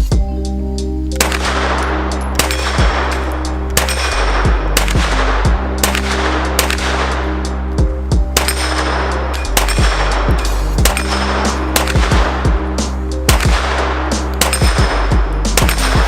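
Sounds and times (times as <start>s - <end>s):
background music with low tones: 0.0s - 16.0s
submachine gun single shots: 1.2s - 7.3s, 8.4s - 12.5s, 13.3s - 16.0s.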